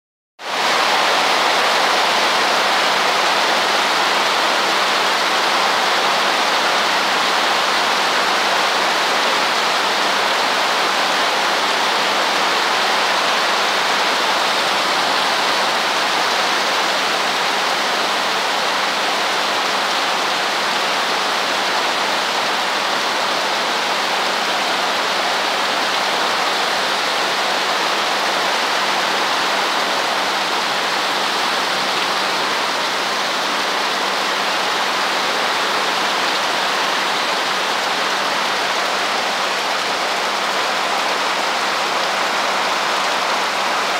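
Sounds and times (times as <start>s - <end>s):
heavy rain pouring: 0.4s - 43.9s.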